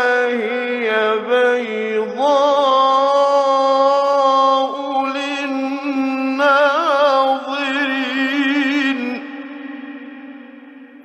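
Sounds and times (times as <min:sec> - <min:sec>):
man chanting melodic recitation: 0:00.0 - 0:11.0.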